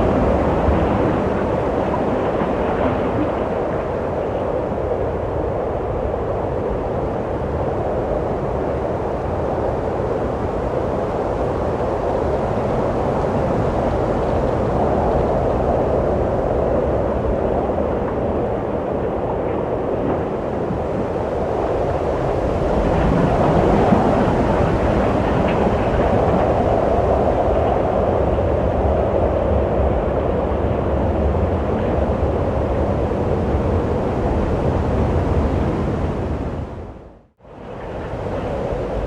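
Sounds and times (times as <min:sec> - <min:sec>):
wind blowing: 0:00.0 - 0:39.0.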